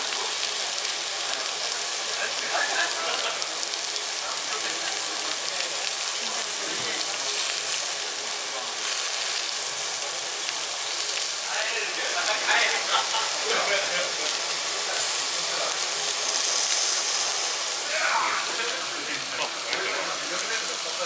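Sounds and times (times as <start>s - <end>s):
meat sizzling on a grill: 0.0s - 21.0s.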